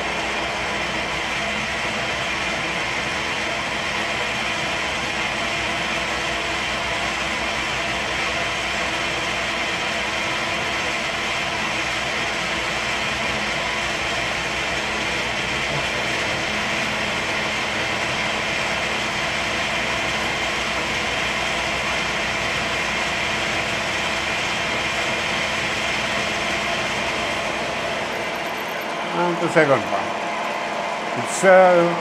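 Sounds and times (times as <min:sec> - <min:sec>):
milling machine humming: 0:00.0 - 0:32.0.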